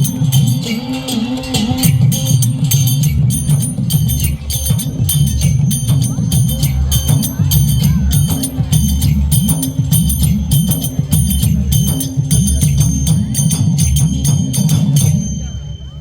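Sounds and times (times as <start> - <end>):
heavy drums: 0.0 - 16.0
rapid jingling: 0.0 - 16.0.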